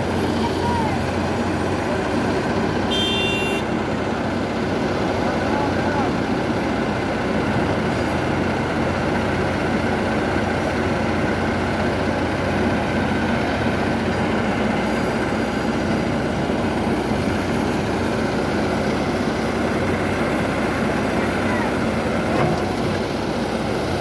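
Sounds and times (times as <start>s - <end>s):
diesel machinery engines droning: 0.0s - 24.0s.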